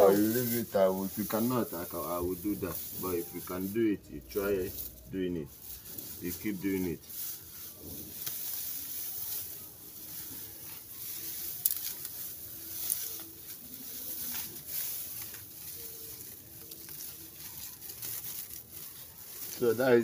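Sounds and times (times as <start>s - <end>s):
dry grass crackling and rustling: 0.0s - 20.0s.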